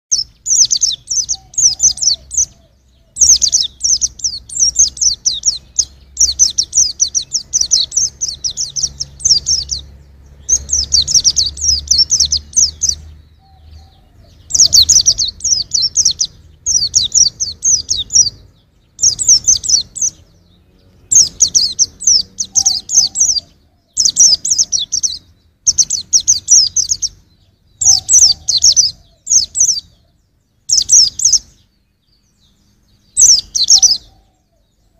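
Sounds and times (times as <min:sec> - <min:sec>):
bird twittering: 0:00.1 - 0:34.9.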